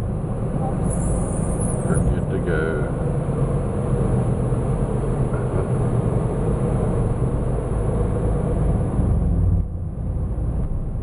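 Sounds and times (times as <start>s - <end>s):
car engine running: 1.7s - 11.0s.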